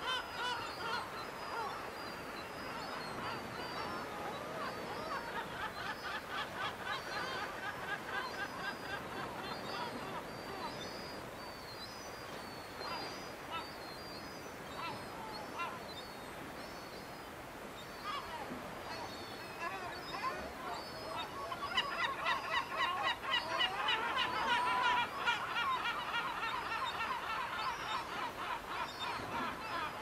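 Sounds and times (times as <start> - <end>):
gulls calling: 0.0 - 16.6, 17.6 - 30.0
steady background hiss: 0.0 - 30.0.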